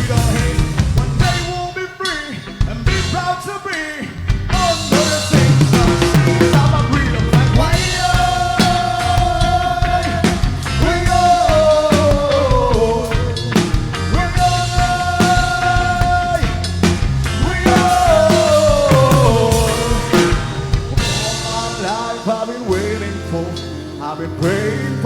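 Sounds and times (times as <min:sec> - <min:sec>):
reggae band playing: 0:00.0 - 0:25.0.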